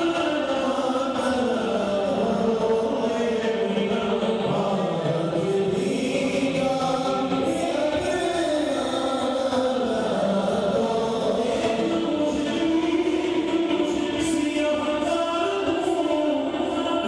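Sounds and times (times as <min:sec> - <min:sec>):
devotional chant with held notes: 0:00.0 - 0:17.0.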